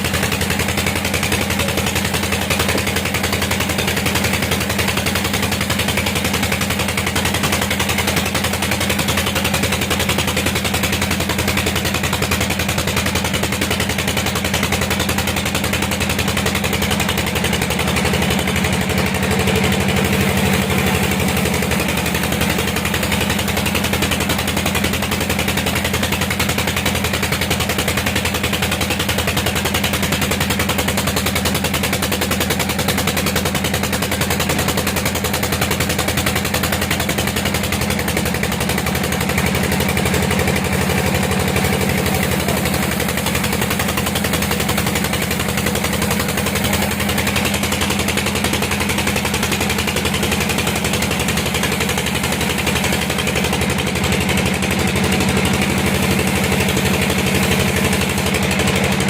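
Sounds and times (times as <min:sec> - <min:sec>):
fast even rattle: 0:00.0 - 0:59.0
sawmill engine drone: 0:00.0 - 0:59.0.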